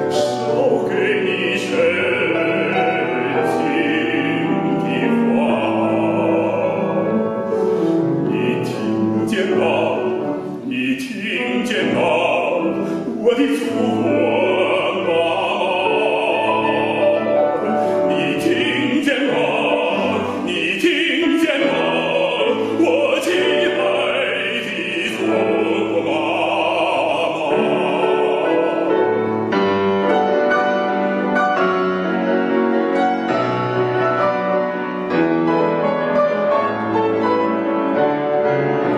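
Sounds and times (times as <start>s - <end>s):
man singing opera: 0.0s - 30.5s, 36.4s - 38.9s
grand piano: 0.0s - 38.9s.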